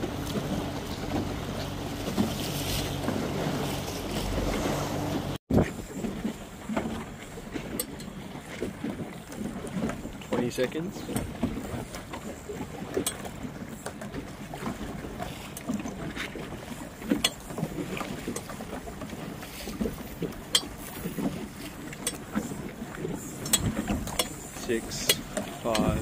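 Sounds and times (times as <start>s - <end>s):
water slapping around boat: 0.0s - 26.0s
wind: 0.0s - 26.0s.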